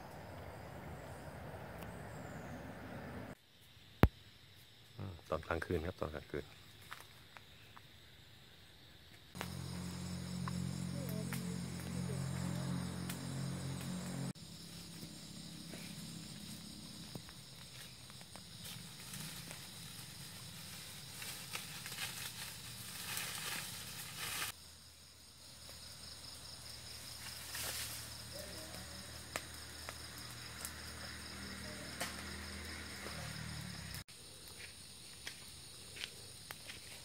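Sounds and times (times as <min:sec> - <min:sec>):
night insects chirring: 0:00.0 - 0:37.0
fire crackling and hissing: 0:06.7 - 0:37.0.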